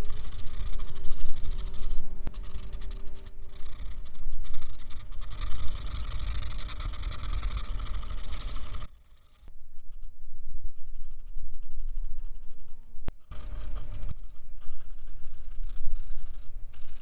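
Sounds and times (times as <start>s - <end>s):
blending stump rubbing on paper: 0.0s - 9.5s, 11.0s - 17.0s.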